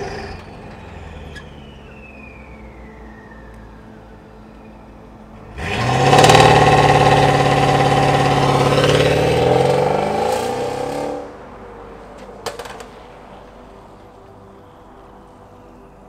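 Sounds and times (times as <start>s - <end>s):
car engine accelerating hard: 0.0s - 15.3s.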